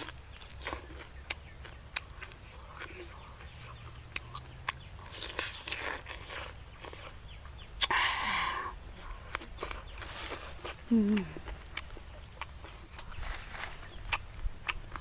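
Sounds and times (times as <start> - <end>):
crunching and chewing: 0.0 - 8.0, 8.7 - 15.0.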